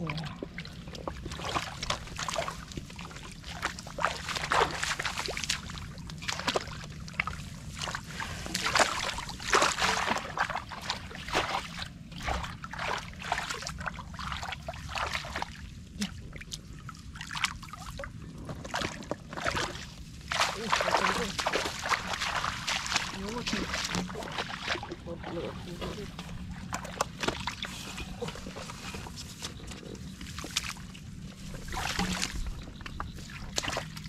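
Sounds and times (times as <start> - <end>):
shallow water splashing: 0.0 - 34.0.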